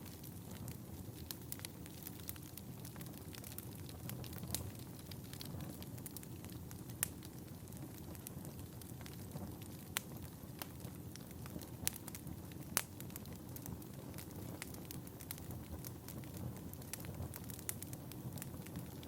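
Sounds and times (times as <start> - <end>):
fire popping: 0.0 - 19.0
firewood burning low rumble: 0.0 - 19.0.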